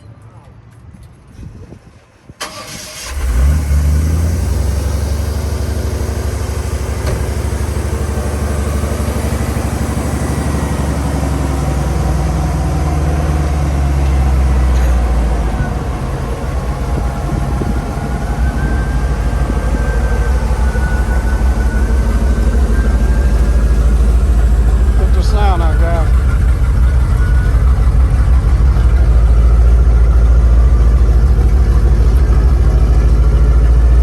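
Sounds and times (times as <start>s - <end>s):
car engine starting and idling: 1.4s - 34.0s.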